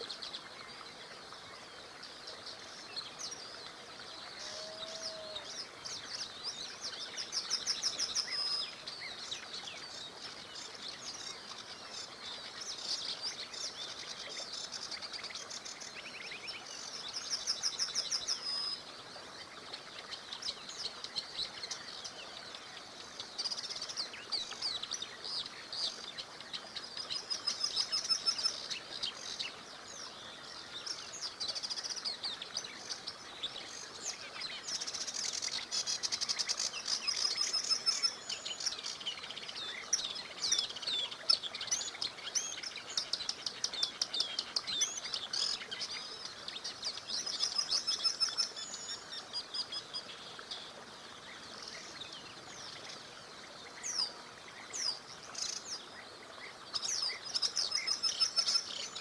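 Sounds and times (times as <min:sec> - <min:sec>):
flowing water hiss: 0:00.0 - 0:59.0
songbirds singing: 0:00.0 - 0:59.0.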